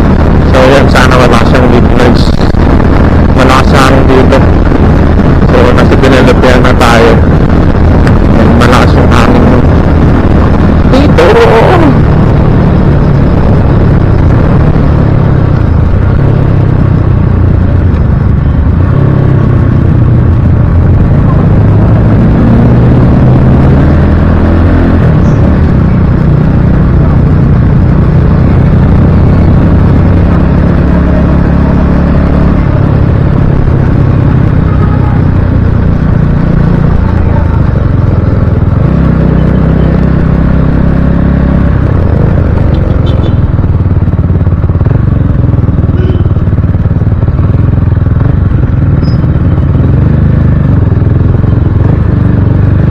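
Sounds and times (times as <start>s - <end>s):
sharp crackles: 0.0s - 52.8s
motorcycle engine running: 0.0s - 52.9s
wind rushing over microphone: 0.0s - 52.9s.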